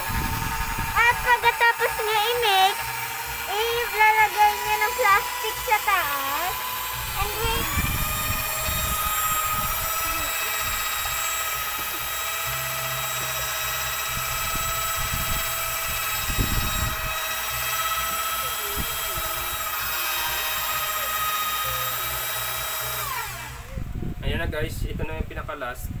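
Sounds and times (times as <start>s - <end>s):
electric drill motor whine: 0.0s - 24.6s.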